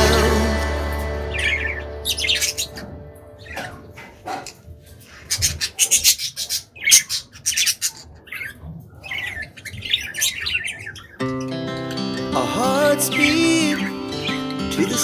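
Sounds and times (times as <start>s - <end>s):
budgies squawking: 0.0s - 15.0s.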